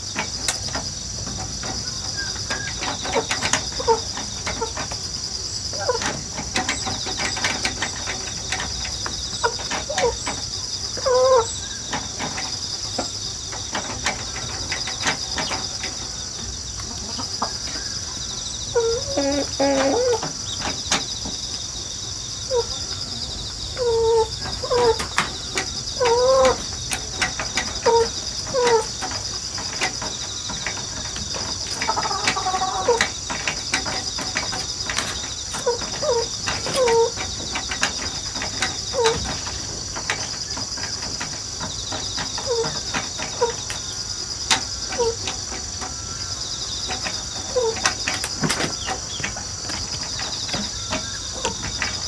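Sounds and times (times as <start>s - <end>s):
chickens clucking: 0.0s - 52.0s
insects chirring: 0.0s - 52.0s.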